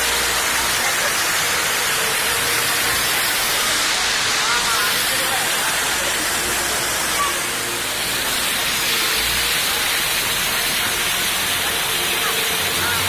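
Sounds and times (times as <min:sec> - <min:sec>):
faint voices: 0:00.0 - 0:13.0
water rushing over rocks: 0:00.0 - 0:13.0.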